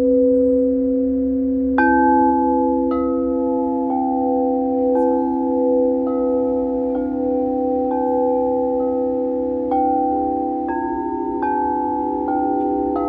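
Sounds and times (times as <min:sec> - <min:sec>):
low singing bowl hum: 0:00.0 - 0:13.0
struck singing bowl ringing: 0:00.0 - 0:13.0.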